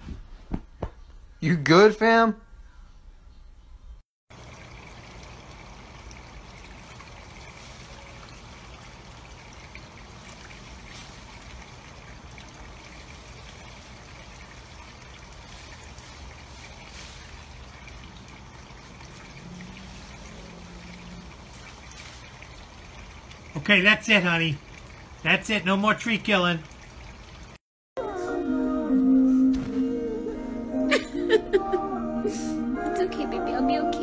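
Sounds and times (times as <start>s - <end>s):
outdoor background hiss: 0.0s - 27.6s.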